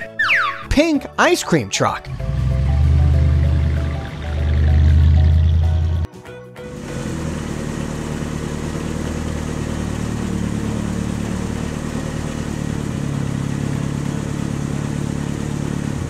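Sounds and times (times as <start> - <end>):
low toy engine hum: 2.1 - 6.1, 6.7 - 16.0.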